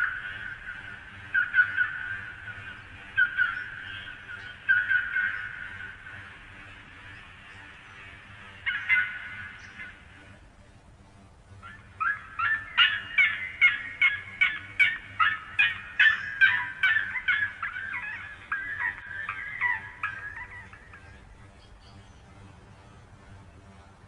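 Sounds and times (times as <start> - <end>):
bird calling repeated notes: 0.0 - 10.2, 11.6 - 22.0.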